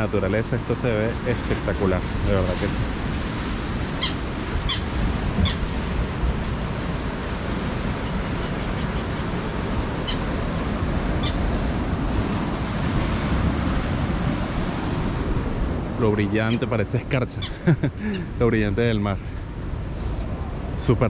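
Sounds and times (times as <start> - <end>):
waves washing over rocks: 0.0 - 8.3, 9.0 - 21.0.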